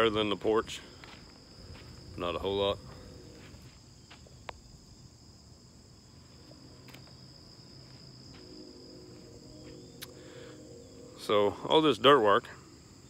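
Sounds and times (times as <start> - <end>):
insects chirping chorus: 0.0 - 13.0.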